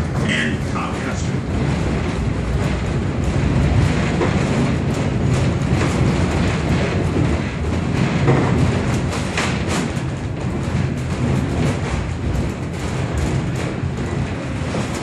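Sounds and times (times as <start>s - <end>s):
railway car rumbling: 0.0s - 15.0s
wheels clicking on rails: 0.0s - 15.0s.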